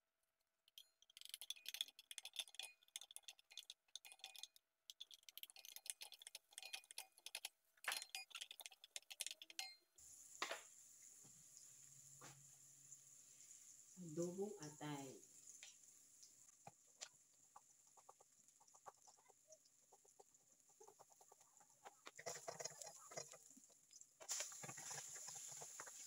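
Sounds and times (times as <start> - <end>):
oil crackling and popping in pan: 0.4 - 26.0.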